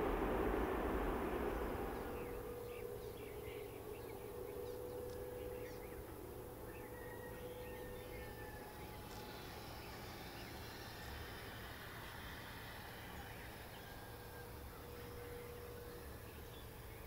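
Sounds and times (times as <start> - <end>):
jet engine hum: 0.0 - 17.0.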